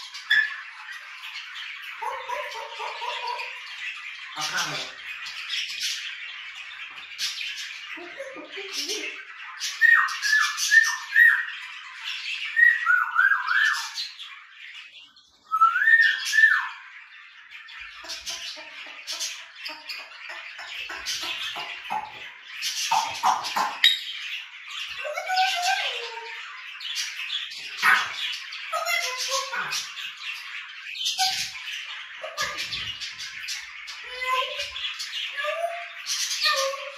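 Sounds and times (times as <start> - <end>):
budgerigars chattering: 0.0 - 36.9
parrot squawks and calls: 0.0 - 36.9.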